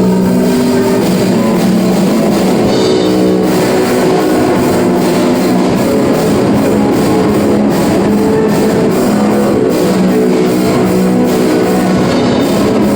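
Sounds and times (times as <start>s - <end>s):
drum kit beat: 0.0s - 12.9s
guitar chords: 0.0s - 12.9s.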